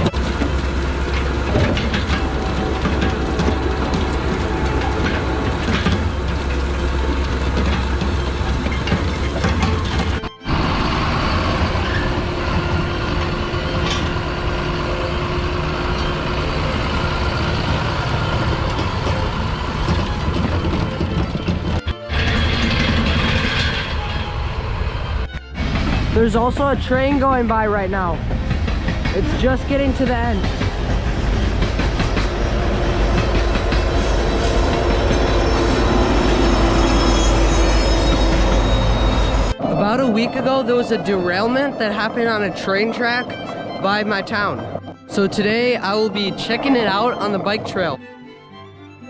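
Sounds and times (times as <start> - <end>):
wheels clicking over rail joints: 0.0 - 48.0
heavy vehicle engine running: 0.0 - 48.8
train rail rumble: 0.0 - 48.8.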